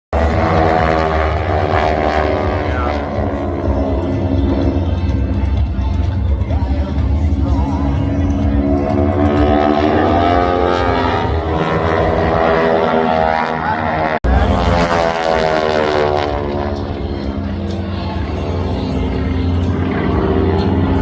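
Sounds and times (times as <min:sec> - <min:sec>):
propeller airplane flying past: 0:00.2 - 0:21.0.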